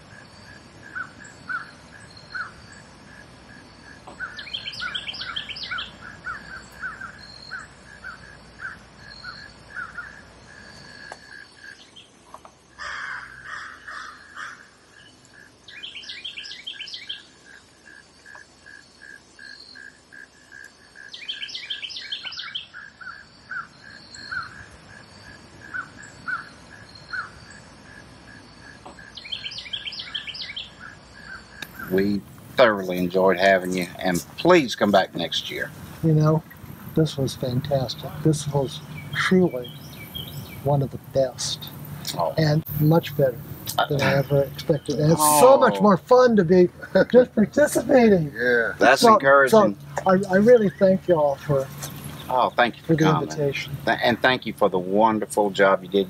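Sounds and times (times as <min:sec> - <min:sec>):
bird chirping song: 0:00.0 - 0:56.0
pulsing insect chorus: 0:00.0 - 0:56.0.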